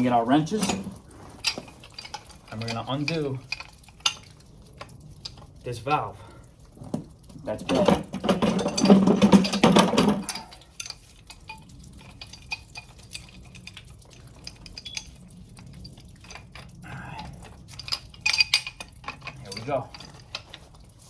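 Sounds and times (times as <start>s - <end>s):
metal wrenches clinking on valve: 0.0s - 5.6s, 7.6s - 21.0s.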